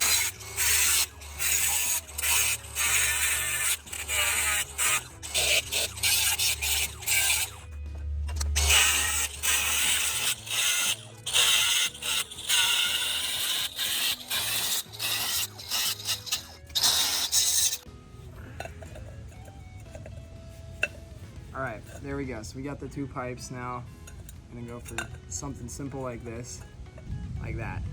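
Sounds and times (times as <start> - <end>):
tool strokes on steel pipe: 0.0 - 22.4, 24.0 - 26.7
background music: 0.0 - 27.9.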